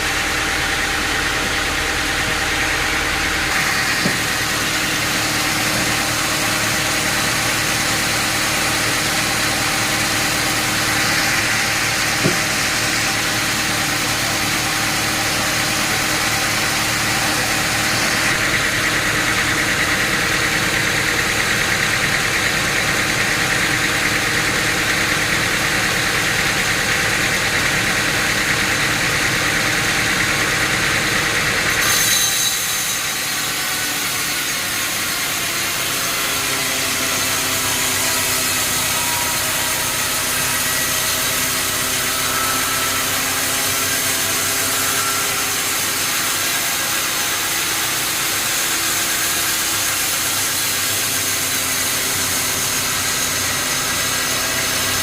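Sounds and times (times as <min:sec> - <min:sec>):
machine engine running: 0:00.0 - 0:31.9, 0:32.6 - 0:55.0
harsh sawmill cutting: 0:00.0 - 0:55.0.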